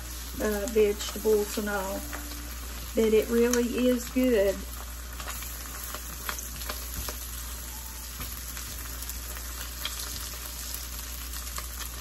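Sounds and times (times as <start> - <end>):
egg and onions sizzling in a pan: 0.0 - 12.0.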